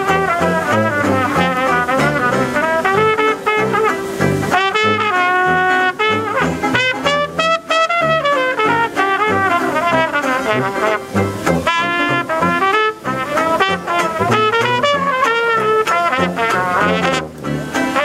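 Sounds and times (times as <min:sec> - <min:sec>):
banjo: 0:00.0 - 0:18.0
reed instrument: 0:00.0 - 0:18.0
sousaphone bass notes: 0:00.0 - 0:18.0
trombone: 0:00.0 - 0:18.0
trumpet: 0:00.0 - 0:18.0.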